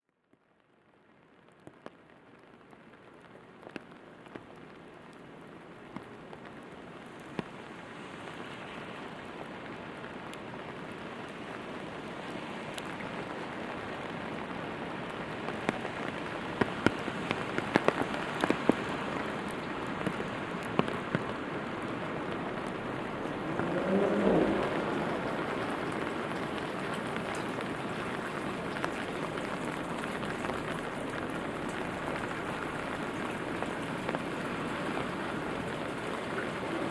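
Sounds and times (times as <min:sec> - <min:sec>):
steady rain falling: 0:00.1 - 0:36.9
raindrops ticking: 0:01.0 - 0:07.7, 0:09.1 - 0:36.9.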